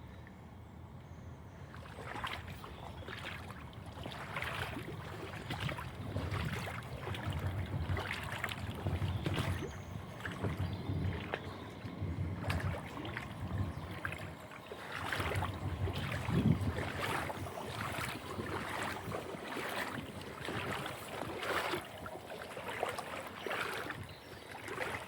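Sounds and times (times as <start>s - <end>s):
wind rumble on microphone: 0.0s - 25.0s
floodwater splashing and rushing: 1.7s - 25.0s.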